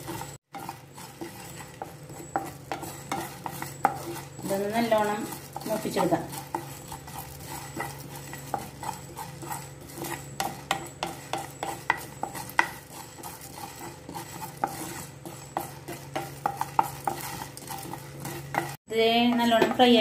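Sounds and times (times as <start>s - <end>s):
seeds rattling in pan: 0.0s - 20.0s
spatula scraping frying pan: 0.0s - 20.0s.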